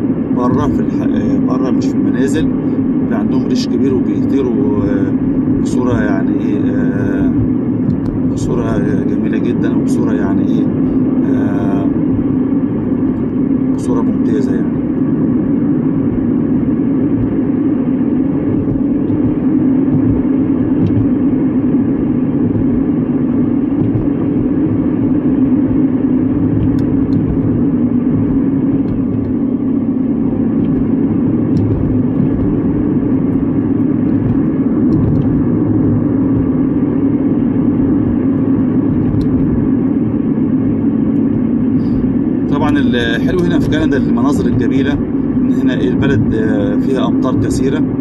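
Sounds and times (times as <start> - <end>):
car cabin road noise: 0.0 - 48.0.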